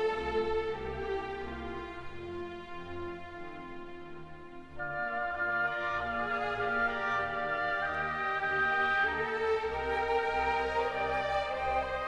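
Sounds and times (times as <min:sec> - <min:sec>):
slow string music: 0:00.0 - 0:12.0.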